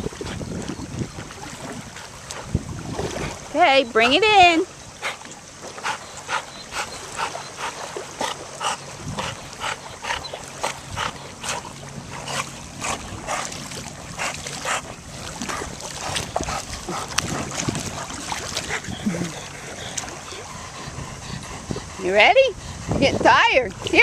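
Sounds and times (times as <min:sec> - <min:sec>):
dog puffing breath while swimming: 0:01.4 - 0:03.5, 0:05.0 - 0:24.0.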